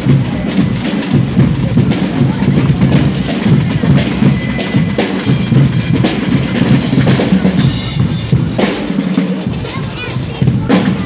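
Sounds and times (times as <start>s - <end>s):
cymbals: 0.0s - 11.0s
snare and bass drums drumming: 0.0s - 11.0s.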